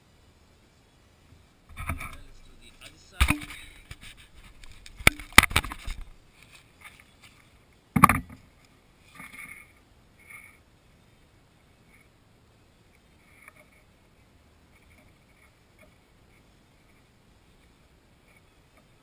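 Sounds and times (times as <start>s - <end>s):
faint clicks and rustles: 1.2s - 12.2s, 12.8s - 19.0s.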